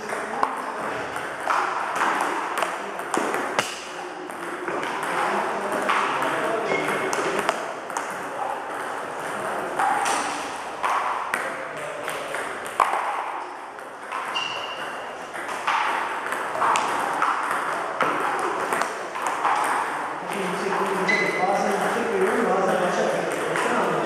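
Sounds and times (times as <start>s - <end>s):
table tennis balls clicking: 0.0s - 24.0s.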